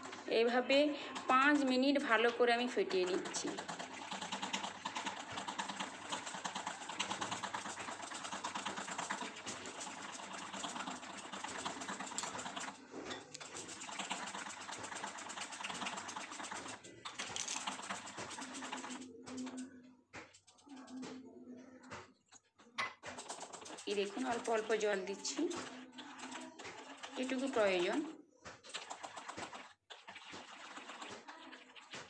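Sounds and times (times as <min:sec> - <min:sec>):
spoon beating batter in glass bowl: 0:00.0 - 0:32.0.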